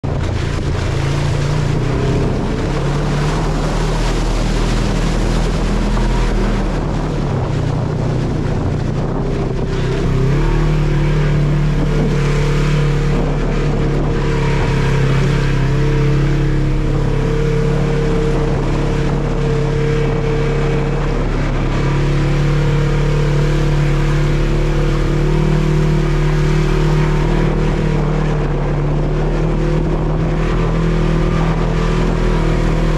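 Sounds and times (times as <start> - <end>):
off-road vehicle engine running: 0.0 - 32.9.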